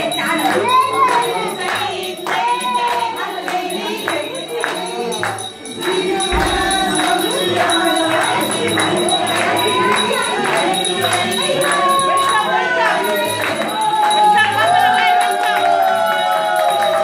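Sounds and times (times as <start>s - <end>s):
bells jingling: 0.0s - 17.0s
group singing festive song: 0.0s - 17.0s
rhythmic hand-clapping: 0.0s - 17.0s.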